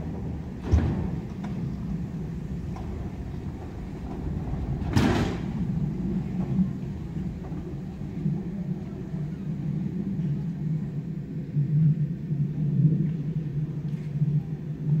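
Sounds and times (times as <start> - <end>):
pool enclosure sections rolling on tracks: 0.0 - 12.6.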